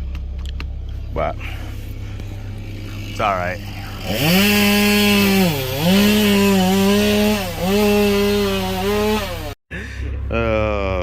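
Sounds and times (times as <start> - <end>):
engine whining at high revs: 1.0 - 11.0.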